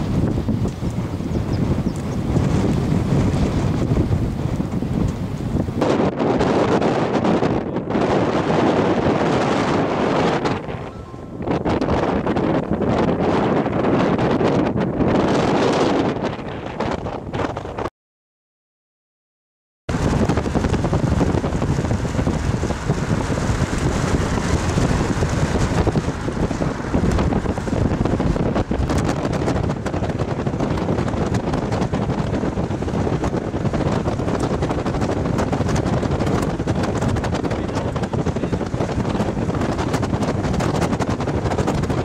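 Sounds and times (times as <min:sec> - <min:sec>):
wind buffeting microphone: 0:00.0 - 0:17.9, 0:19.9 - 0:42.0.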